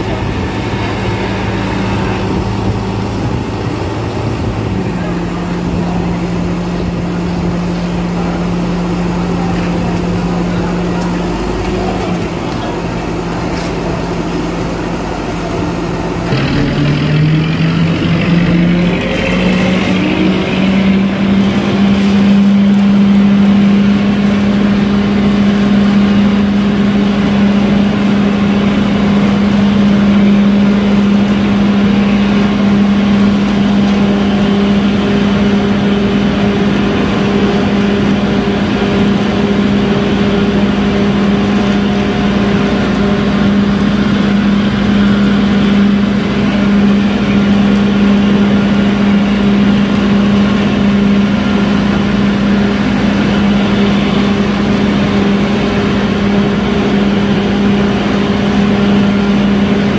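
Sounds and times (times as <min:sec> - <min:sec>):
concrete mixer running: 0:00.0 - 0:59.9.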